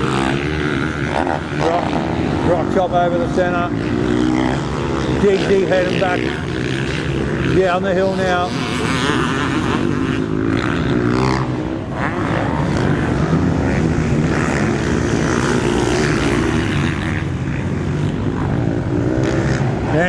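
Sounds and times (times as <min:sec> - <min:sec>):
motocross bike engines: 0:00.0 - 0:20.0.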